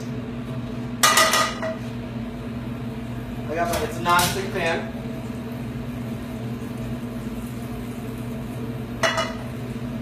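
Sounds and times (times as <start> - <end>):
kitchen equipment humming: 0.0 - 10.0.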